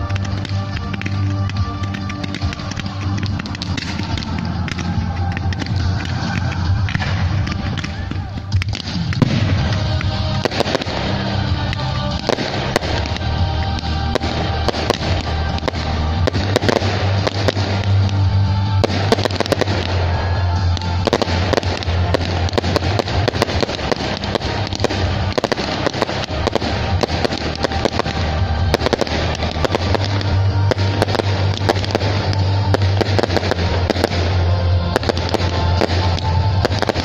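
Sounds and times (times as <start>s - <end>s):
fireworks bangs: 0.0s - 37.0s
music: 0.0s - 37.0s.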